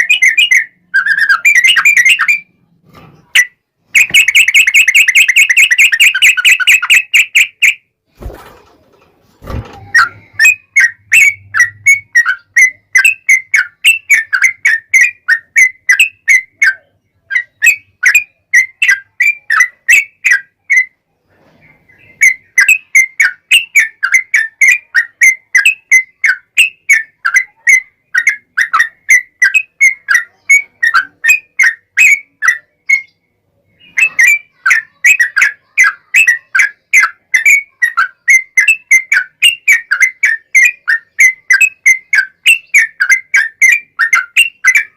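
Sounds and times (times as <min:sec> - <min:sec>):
bird whistled chirping: 0:00.0 - 0:02.5, 0:03.4 - 0:07.8, 0:09.9 - 0:20.9, 0:21.9 - 0:44.9.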